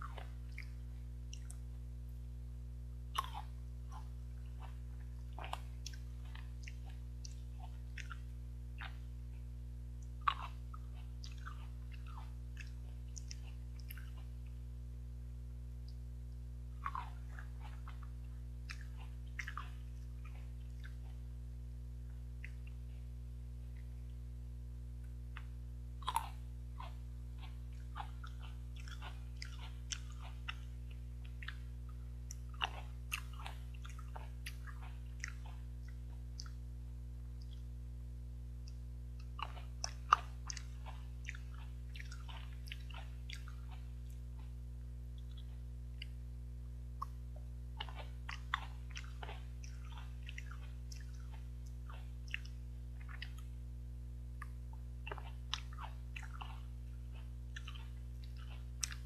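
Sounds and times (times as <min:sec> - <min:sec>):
chewing and biting grapes: 0:00.0 - 0:01.8, 0:03.1 - 0:14.8, 0:15.8 - 0:24.2, 0:25.0 - 0:37.8, 0:38.5 - 0:46.3, 0:46.9 - 0:53.6, 0:54.3 - 0:59.0
steady low hum: 0:00.0 - 0:59.0.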